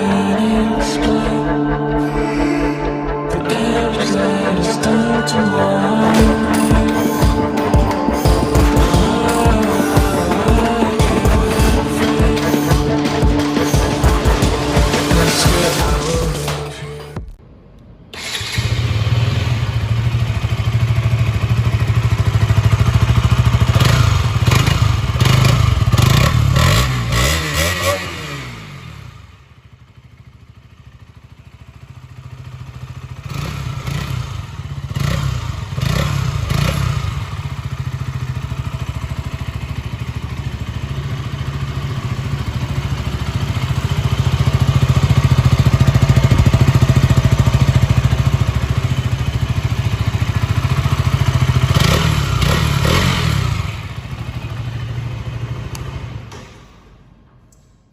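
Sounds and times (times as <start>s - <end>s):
motorcycle engine revving: 0.0s - 17.2s, 18.1s - 56.5s.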